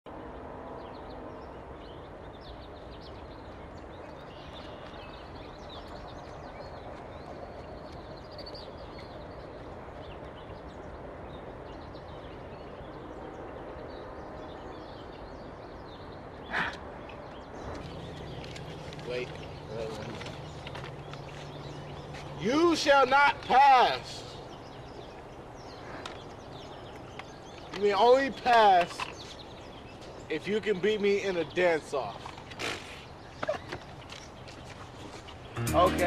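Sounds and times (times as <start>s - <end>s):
birds chirping and singing: 0.2s - 36.0s.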